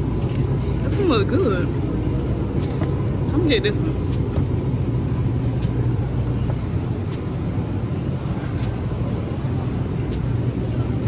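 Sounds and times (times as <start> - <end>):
store background hum: 0.0 - 11.0.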